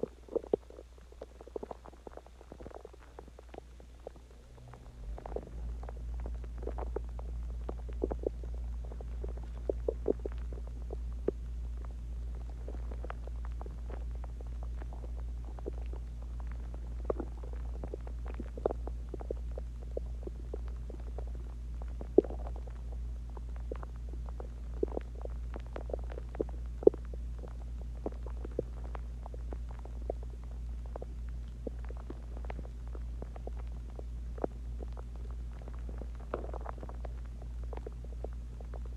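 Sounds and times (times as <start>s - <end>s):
steady low hum: 0.0s - 38.9s
stomach gurgling: 0.0s - 38.9s.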